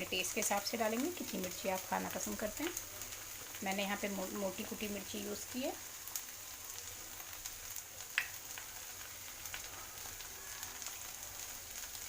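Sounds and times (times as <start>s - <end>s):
food sizzling in a pan: 0.0s - 12.0s
small crackles: 0.0s - 12.0s.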